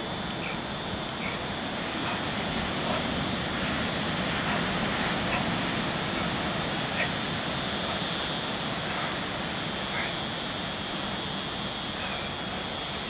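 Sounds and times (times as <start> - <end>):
faint high whine: 0.0 - 13.0
steady rushing outdoor noise: 0.0 - 13.0.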